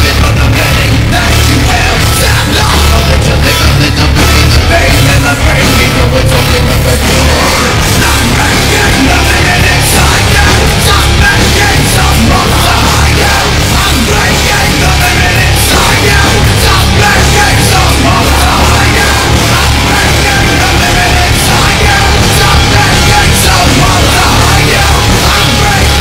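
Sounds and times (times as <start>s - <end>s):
heavy metal music: 0.0s - 26.0s.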